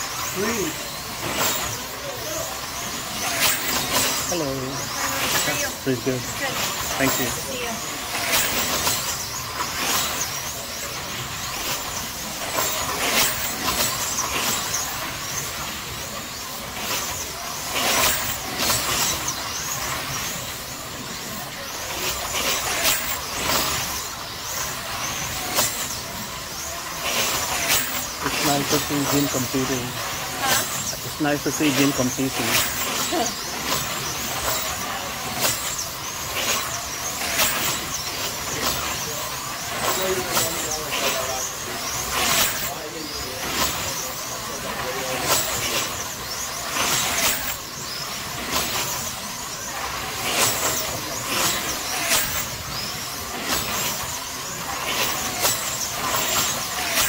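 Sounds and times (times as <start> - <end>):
cars hissing on track: 0.0 - 57.0
slot car motors whining: 0.0 - 57.0.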